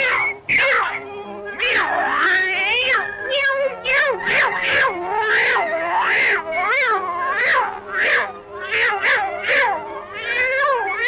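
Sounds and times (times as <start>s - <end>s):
cartoon cat meowing: 1.6s - 11.0s.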